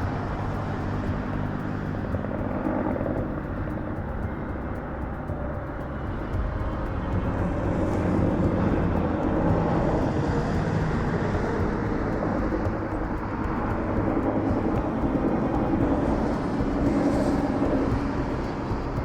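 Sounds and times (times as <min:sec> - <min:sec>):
helicopter rotor and engine drone: 0:00.0 - 0:19.0.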